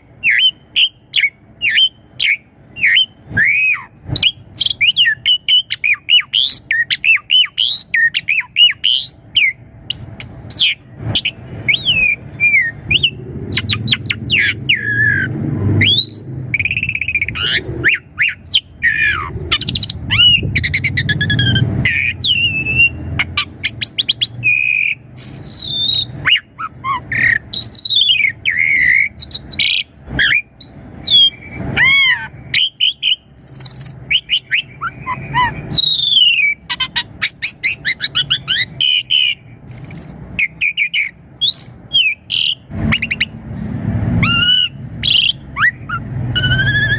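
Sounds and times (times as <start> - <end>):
starling singing varied song: 0.0 - 43.4, 44.2 - 46.9.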